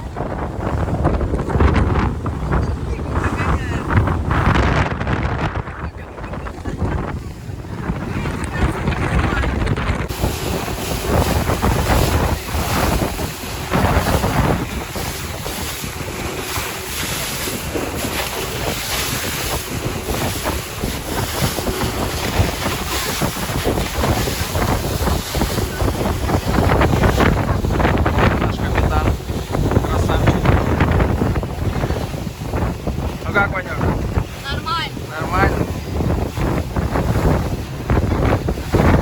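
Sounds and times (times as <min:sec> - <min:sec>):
motor boat engine: 0:00.0 - 0:39.0
water rushing: 0:00.0 - 0:39.0
wind buffeting microphone: 0:00.0 - 0:39.0.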